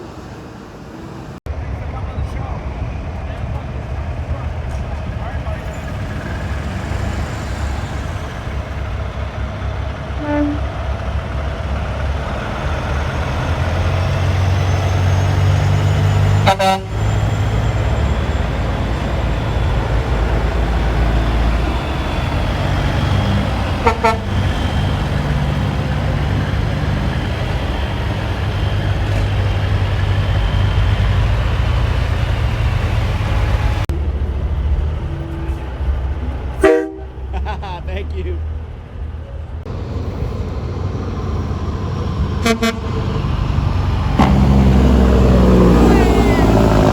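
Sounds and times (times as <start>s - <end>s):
diesel truck engine rumbling: 0.0s - 46.9s.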